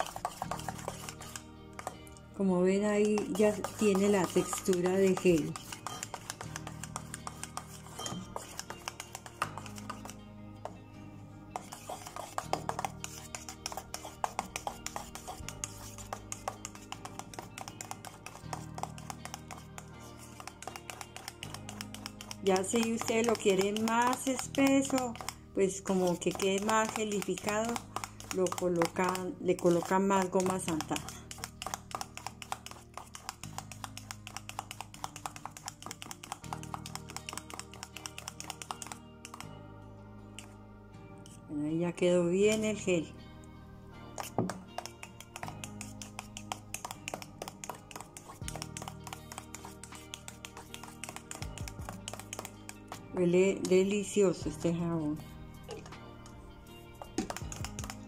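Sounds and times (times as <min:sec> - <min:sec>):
whisk clicking and scraping a bowl: 0:00.0 - 0:10.3, 0:11.5 - 0:39.6, 0:44.2 - 0:54.7, 0:57.0 - 0:58.0
background music: 0:00.0 - 0:58.0.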